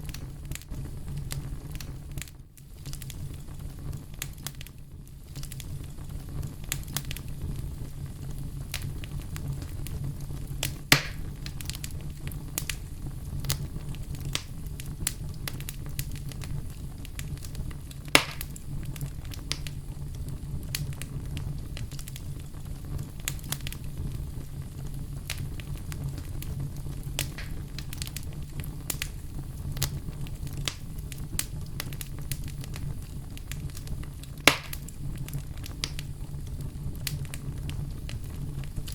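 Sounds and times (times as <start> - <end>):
campfire burning: 0.0 - 38.9
fire crackling: 0.0 - 38.9
loud fire pops: 0.0 - 38.9.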